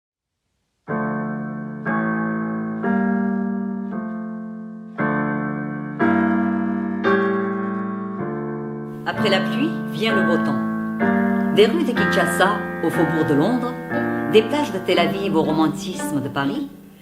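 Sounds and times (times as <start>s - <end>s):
piano playing slow chords: 0.9s - 17.0s.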